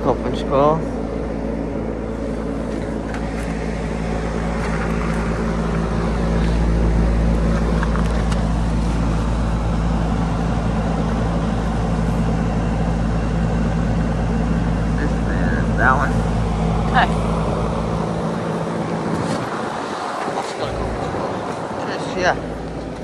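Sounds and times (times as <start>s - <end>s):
heat pump fan and compressor hum: 0.0s - 23.0s
low rumble: 0.0s - 23.0s.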